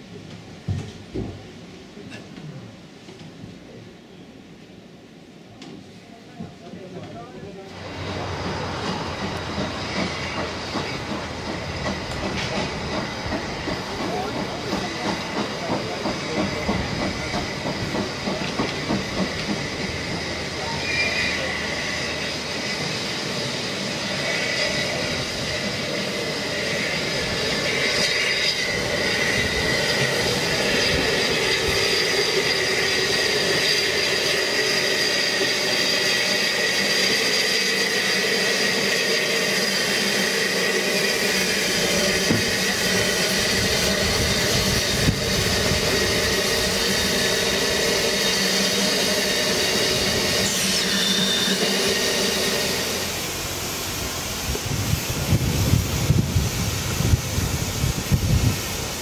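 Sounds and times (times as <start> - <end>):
train wheels squealing on rails: 5.8 - 59.0.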